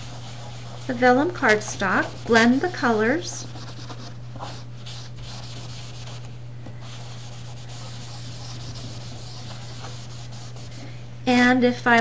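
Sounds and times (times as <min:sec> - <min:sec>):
paper towel rubbing on cardstock: 0:00.0 - 0:10.9
constant low hum: 0:00.0 - 0:12.0.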